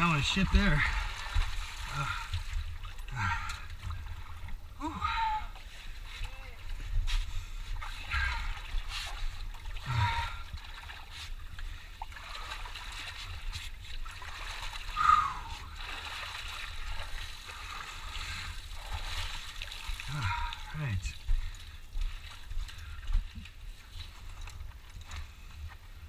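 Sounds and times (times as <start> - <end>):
wading through muddy water: 0.0 - 26.0
water splashing and sloshing: 0.0 - 26.0.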